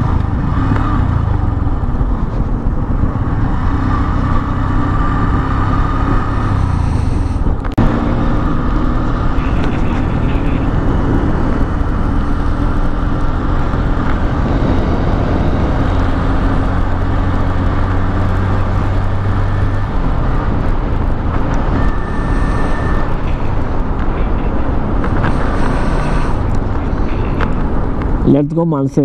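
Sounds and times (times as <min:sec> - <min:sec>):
motorcycle engine running: 0:00.0 - 0:28.2
wind and road noise: 0:00.0 - 0:29.0.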